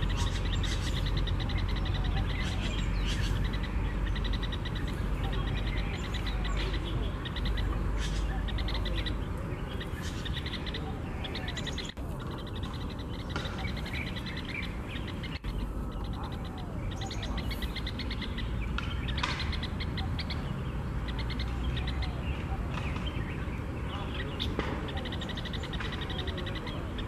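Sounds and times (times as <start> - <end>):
birds chirping: 0.0 - 27.0
steady low rumble: 0.0 - 27.0.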